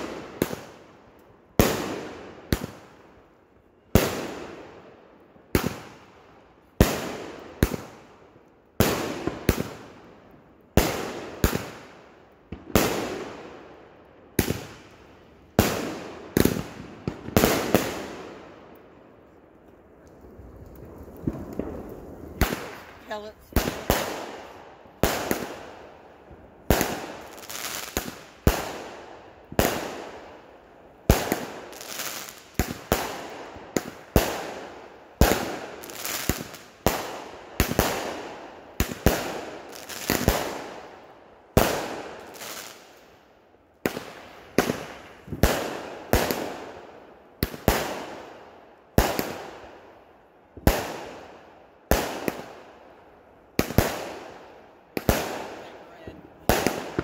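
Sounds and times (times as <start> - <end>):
firework bangs and crackle: 0.0 - 57.0.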